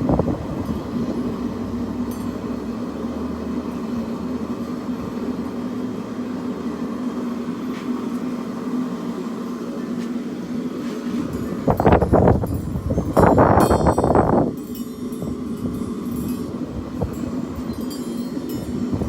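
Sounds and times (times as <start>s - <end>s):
forge droning: 0.0s - 19.0s.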